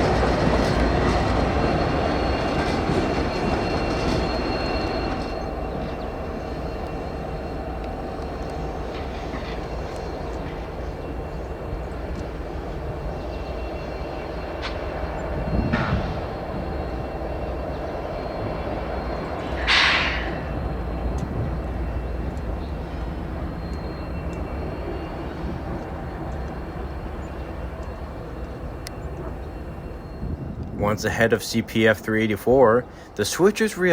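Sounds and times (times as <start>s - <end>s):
diesel locomotive running: 0.0s - 33.9s.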